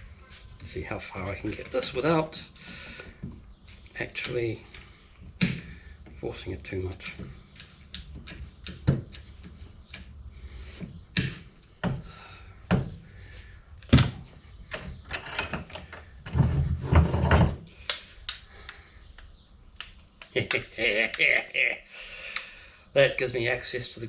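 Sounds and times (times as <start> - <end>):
light clicks and knocks of metal parts: 0.2 - 21.2.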